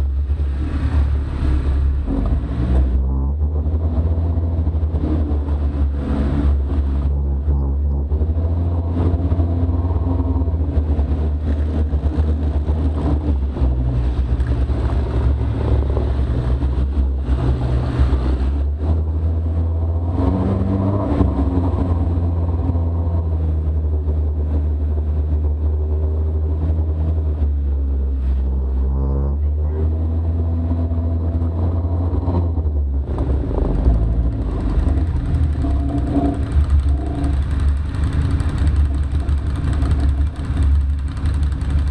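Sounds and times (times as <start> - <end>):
off-road vehicle engine running: 0.0 - 41.9.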